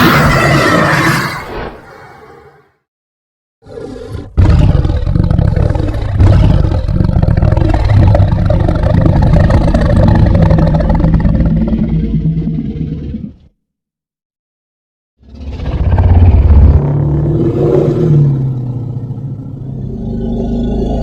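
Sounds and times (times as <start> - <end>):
dinosaur roar: 0.0 - 2.7, 3.6 - 13.5, 15.2 - 21.0.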